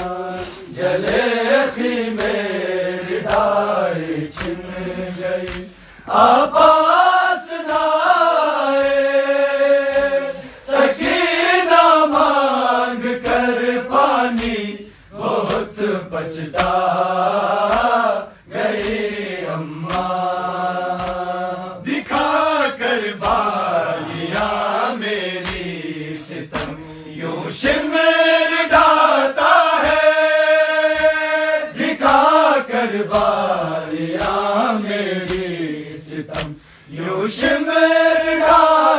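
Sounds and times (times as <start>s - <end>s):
hands slapping chests: 0.0s - 9.1s, 9.8s - 36.8s
men chanting together: 0.0s - 38.9s.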